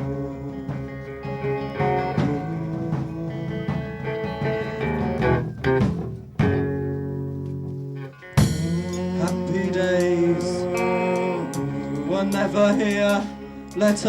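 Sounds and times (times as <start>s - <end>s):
live band guitar and bass: 0.0s - 14.0s.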